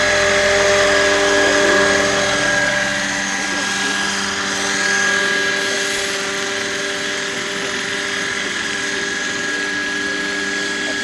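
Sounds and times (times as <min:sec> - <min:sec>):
model helicopter whining: 0:00.0 - 0:11.0.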